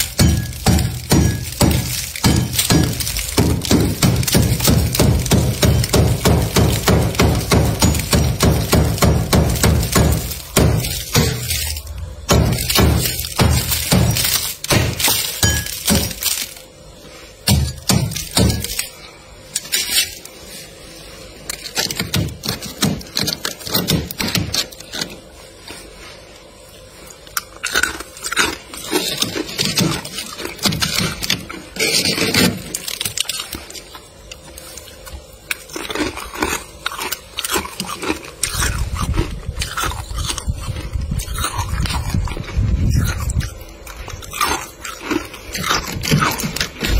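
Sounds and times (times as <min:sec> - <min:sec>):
freezer frost being scraped: 0:00.0 - 0:26.8, 0:28.0 - 0:46.9.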